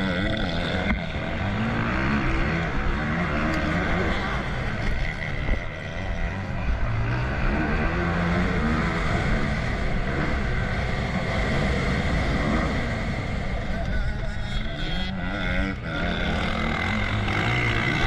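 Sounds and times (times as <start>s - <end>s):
motocross bike engine accelerating: 0.0s - 18.0s.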